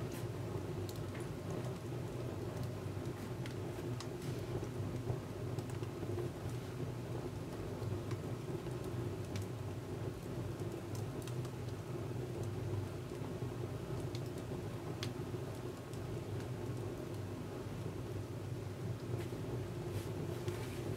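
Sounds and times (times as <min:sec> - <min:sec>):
fire crackling and popping: 0:00.0 - 0:20.9
wood fire rumbling: 0:00.0 - 0:20.9.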